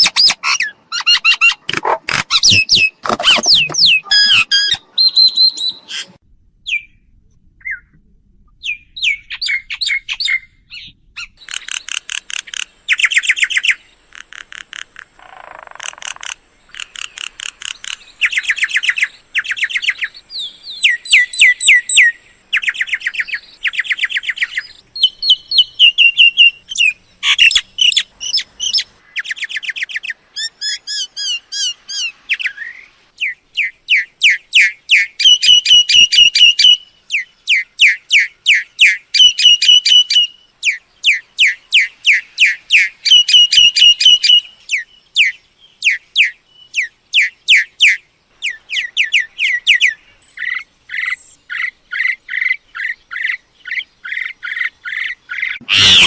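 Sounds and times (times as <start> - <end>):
myna bird chattering and whistling: 0.0 - 6.9, 8.6 - 56.0.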